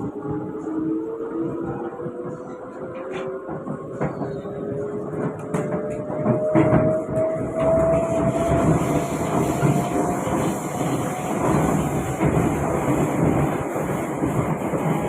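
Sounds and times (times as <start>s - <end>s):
wheels rumbling on track: 0.0s - 15.0s.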